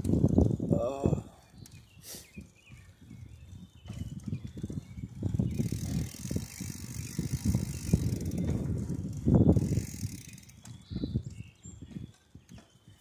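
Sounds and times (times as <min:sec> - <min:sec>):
bicycle rattling and knocking: 0:00.0 - 0:13.0.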